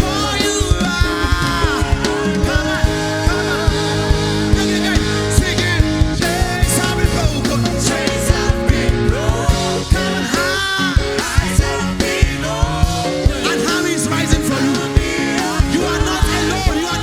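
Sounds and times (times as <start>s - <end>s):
drum beat: 0.0s - 17.0s
guitar chords: 0.0s - 17.0s
keyboard chords: 0.0s - 17.0s
person singing: 0.0s - 17.0s.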